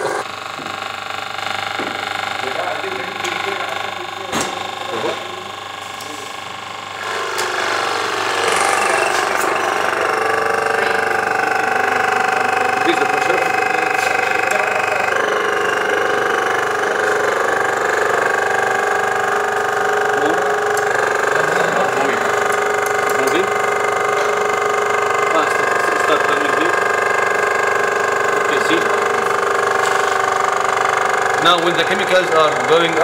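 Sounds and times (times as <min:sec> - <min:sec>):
pump mechanical whine: 0:00.0 - 0:33.0.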